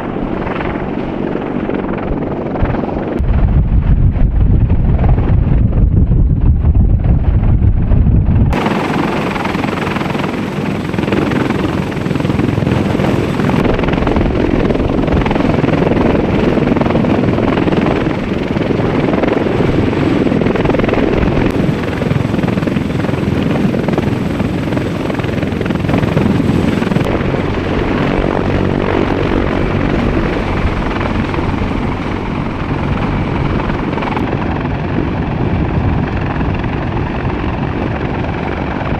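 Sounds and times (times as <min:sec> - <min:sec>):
helicopter rotor and turbine: 0:00.0 - 0:38.9
wind rumble on microphone: 0:00.0 - 0:38.9.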